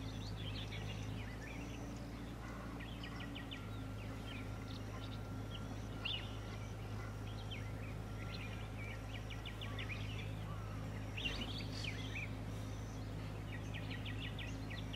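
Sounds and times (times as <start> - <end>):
birds chirping and trilling: 0.0 - 14.9
steady low hum: 0.0 - 14.9.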